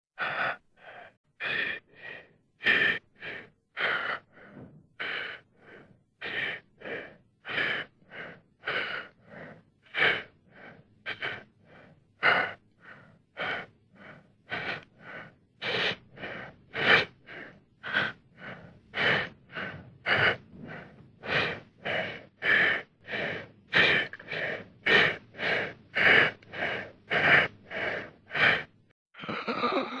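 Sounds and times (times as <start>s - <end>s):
person panting heavily: 0.2s - 29.4s.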